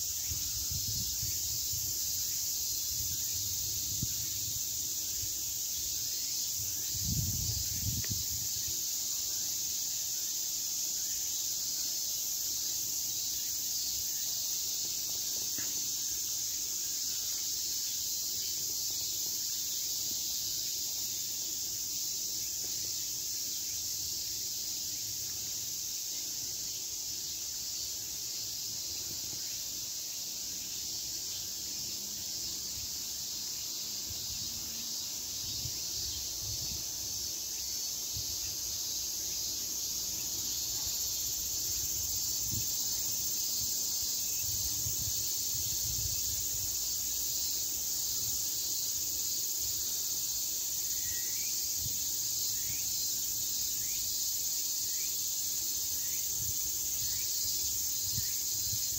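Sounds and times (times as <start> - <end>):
high-pitched insect chorus: 0.0 - 58.9.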